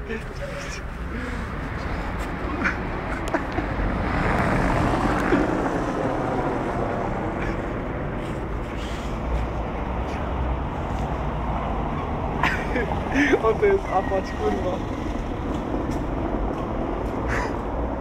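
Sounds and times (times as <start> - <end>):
traffic rumble on wet road: 0.0 - 18.0.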